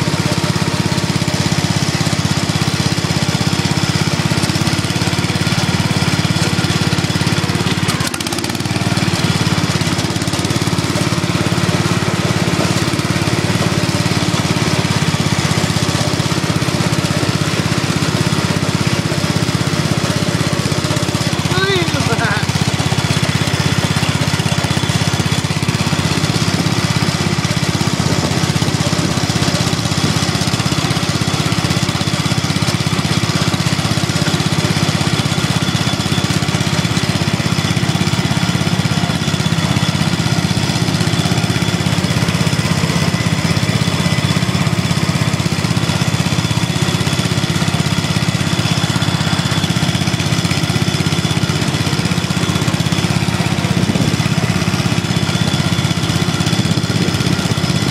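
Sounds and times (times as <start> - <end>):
small tractor engines running: 0.0 - 57.9.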